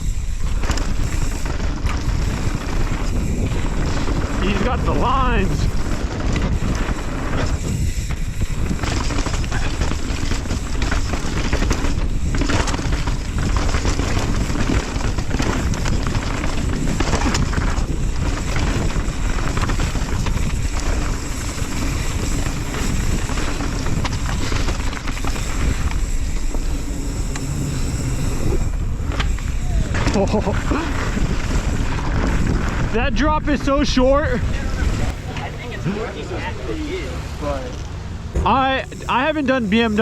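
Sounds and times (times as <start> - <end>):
wind on microphone: 0.0 - 36.6
mountain bike rattling: 0.0 - 40.0
tyres on dirt: 0.0 - 40.0.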